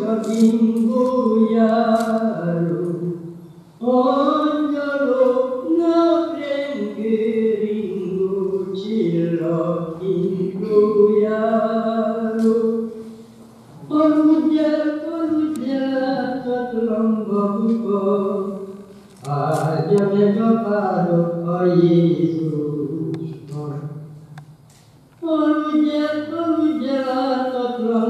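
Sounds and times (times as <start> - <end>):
woman singing unaccompanied folk song: 0.0 - 3.2, 3.8 - 13.0, 13.8 - 18.7, 19.3 - 23.8, 25.2 - 28.0.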